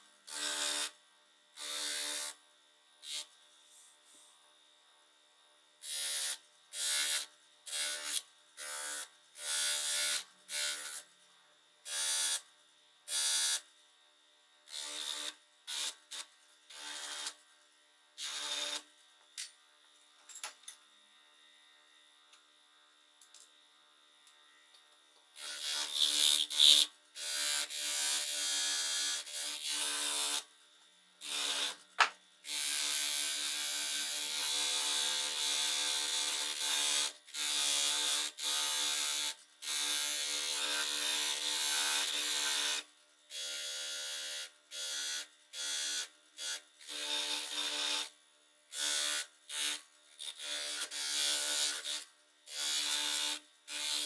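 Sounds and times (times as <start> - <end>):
small electric motor tool: 0.0 - 4.7, 5.8 - 19.5, 23.2 - 54.0.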